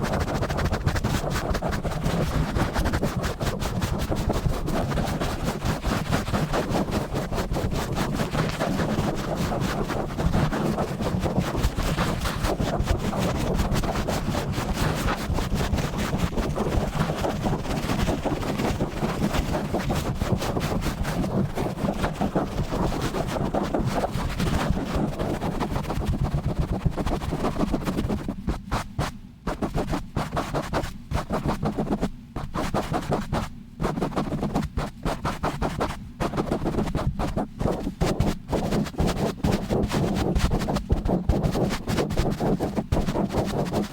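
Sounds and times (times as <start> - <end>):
scratching on a microphone: 0.0 - 43.9.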